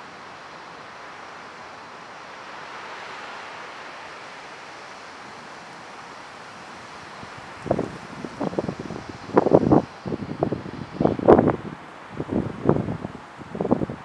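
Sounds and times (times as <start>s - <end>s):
wind rushing through trees: 0.0s - 14.0s.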